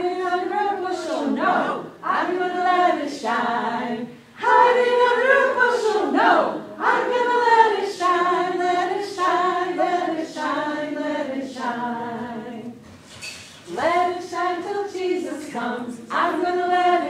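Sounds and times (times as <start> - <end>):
women singing unaccompanied: 0.0 - 12.8, 13.7 - 17.0.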